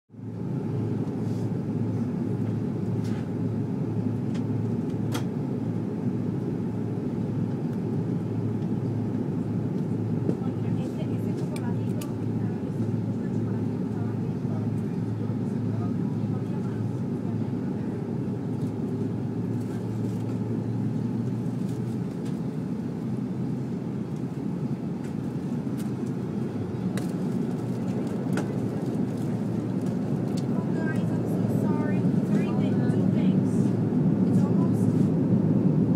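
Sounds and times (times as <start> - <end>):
jet cabin engine rumble: 0.1 - 35.9.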